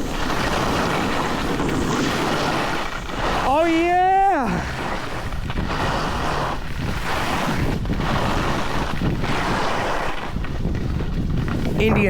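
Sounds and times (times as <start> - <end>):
edges scraping over packed snow: 0.0 - 12.0
wind buffeting microphone: 0.0 - 12.0.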